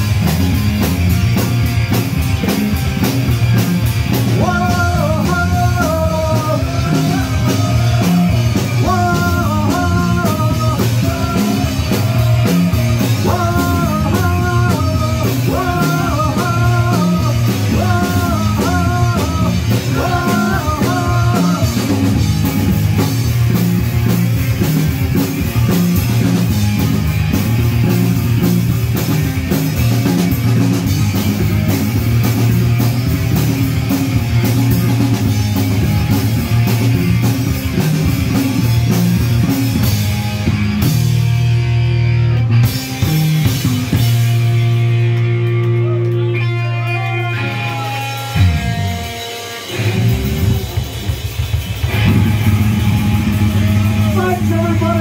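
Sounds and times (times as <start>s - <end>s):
live punk rock band: 0.0s - 55.0s
stepping melody line: 0.0s - 55.0s.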